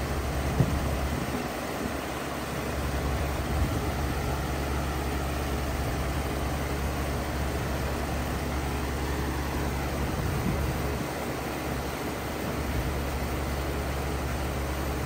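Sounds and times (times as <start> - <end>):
heat pump humming: 0.0 - 15.0.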